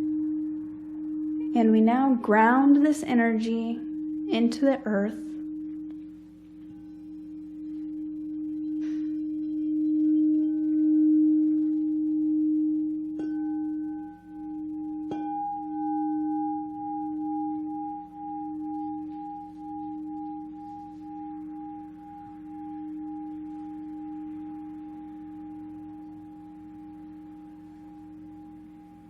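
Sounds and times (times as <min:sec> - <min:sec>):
singing bowl ringing: 0:00.0 - 0:29.0
singing bowl strikes: 0:00.0 - 0:29.0.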